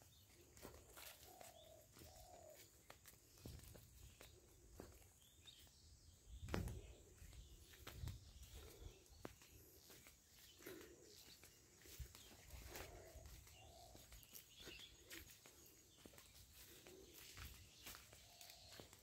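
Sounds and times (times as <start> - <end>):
soft footsteps: 0.0 - 19.0.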